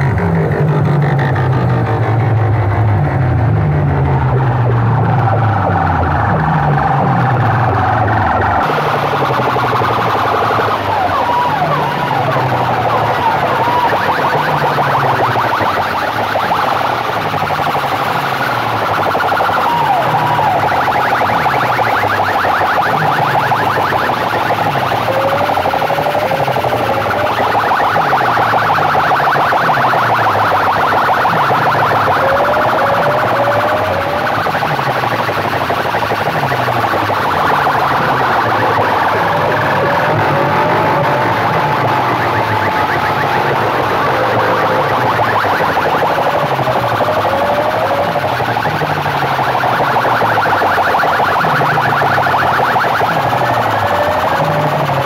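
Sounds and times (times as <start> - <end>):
loud distorted electronic music: 0.0 - 55.0.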